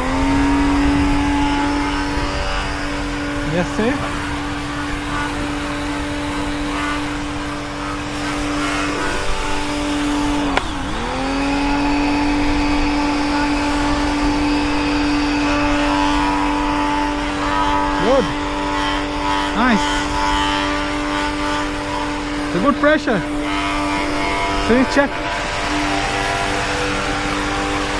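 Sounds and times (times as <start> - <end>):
pressure washer motor hum: 0.0 - 27.9.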